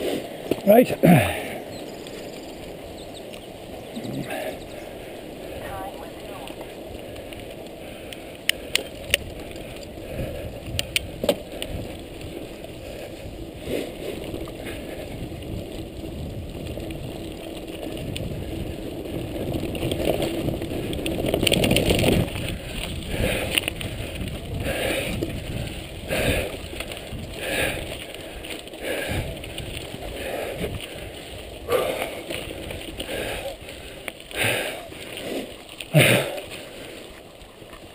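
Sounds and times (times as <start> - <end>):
bike rattling over rocks: 0.0 - 37.9
bike tyres rolling on trail: 0.0 - 37.9.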